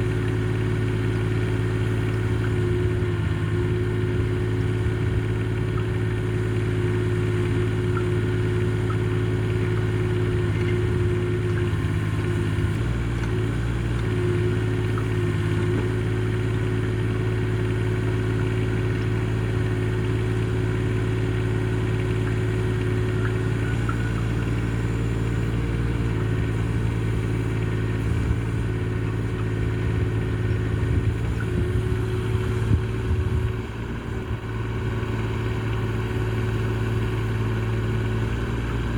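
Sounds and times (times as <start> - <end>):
mini excavator engine running: 0.0 - 38.9.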